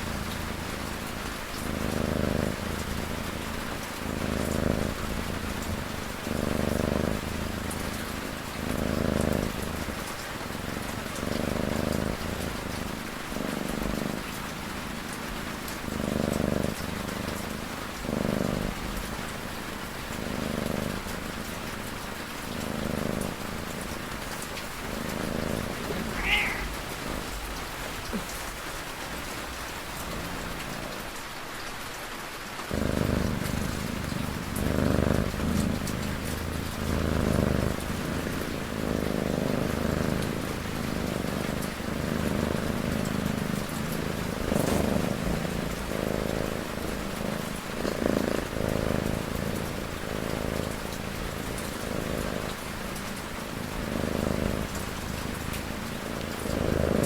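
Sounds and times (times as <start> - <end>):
cat snoring: 0.0 - 31.1, 32.7 - 57.0
steady rain: 0.0 - 57.0.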